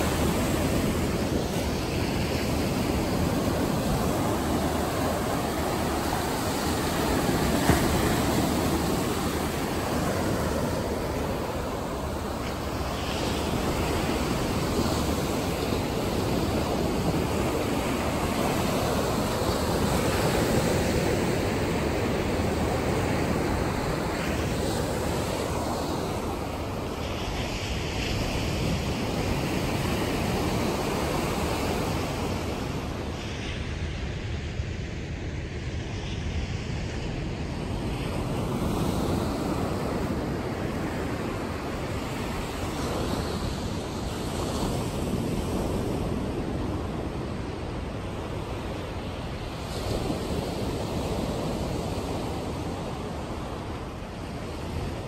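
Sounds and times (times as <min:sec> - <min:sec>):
ocean surf breaking on beach: 0:00.0 - 0:55.0
wind rumbling on microphone: 0:00.0 - 0:55.0.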